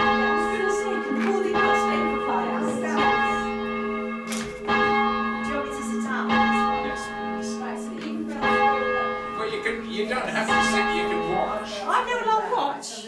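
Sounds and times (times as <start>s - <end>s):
church bells ringing: 0.0s - 12.5s.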